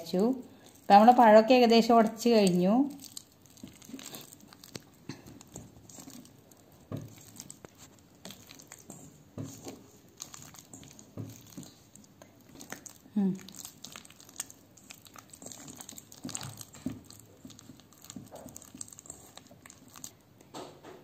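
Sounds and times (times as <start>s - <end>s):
hand squishing bananas: 0.0s - 20.5s.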